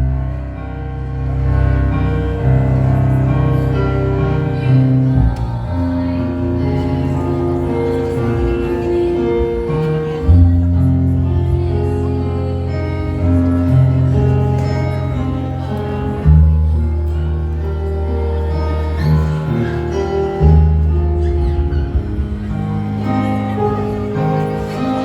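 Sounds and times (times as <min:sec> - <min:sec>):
held bass notes: 0:00.0 - 0:25.0
sustained chords: 0:00.0 - 0:25.0.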